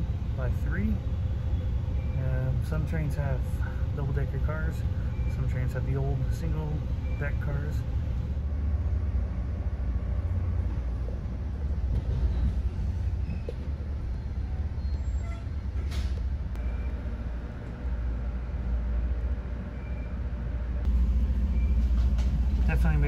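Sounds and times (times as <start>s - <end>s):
train coach rumbling on track: 0.0s - 23.0s.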